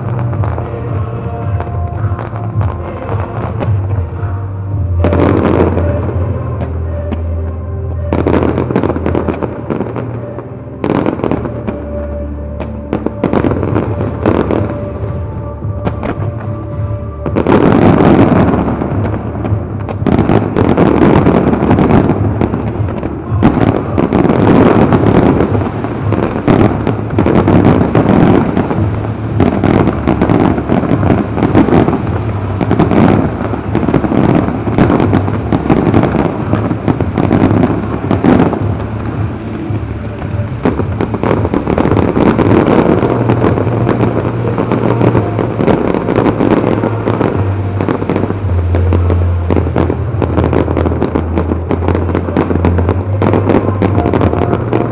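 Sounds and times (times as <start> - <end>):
fireworks bangs and crackle: 0.0 - 54.9.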